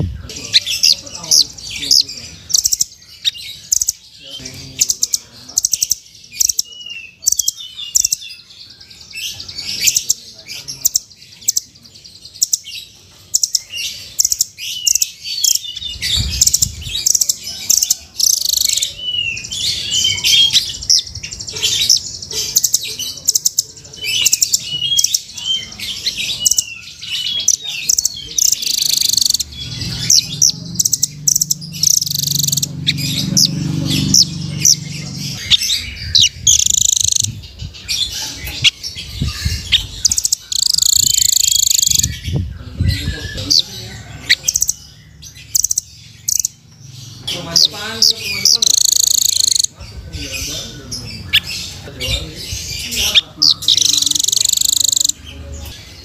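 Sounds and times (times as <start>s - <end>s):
bird chirping and trilling: 0.0s - 56.0s.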